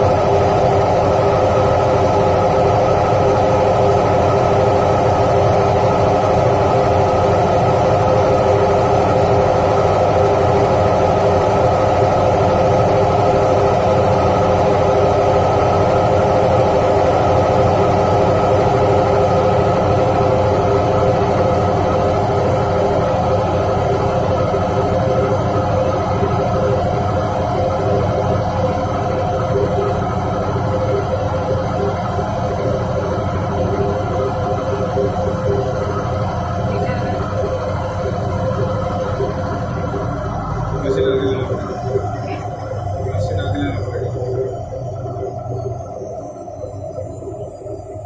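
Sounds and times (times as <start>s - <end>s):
washing machine drum spinning: 0.0s - 46.0s.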